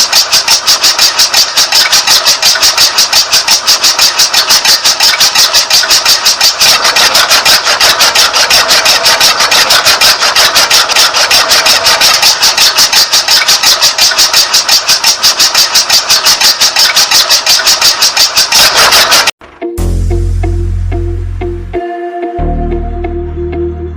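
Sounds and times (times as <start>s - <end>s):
fast steady chugging: 0.0s - 19.3s.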